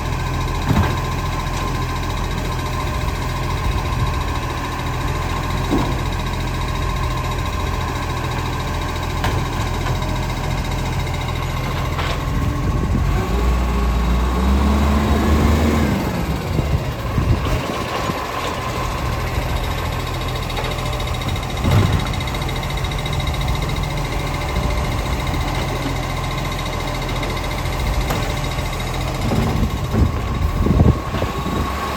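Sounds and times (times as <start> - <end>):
diesel truck engine running: 0.0 - 31.9.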